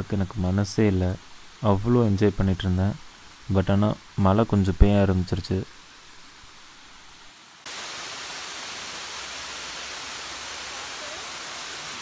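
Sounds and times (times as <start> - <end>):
waterfall rushing in heavy rain: 0.2 - 12.0.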